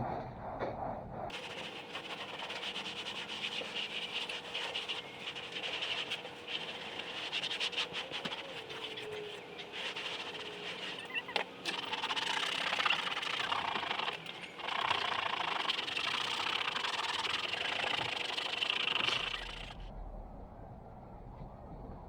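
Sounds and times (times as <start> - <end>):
tool scraping hide: 0.6 - 19.8.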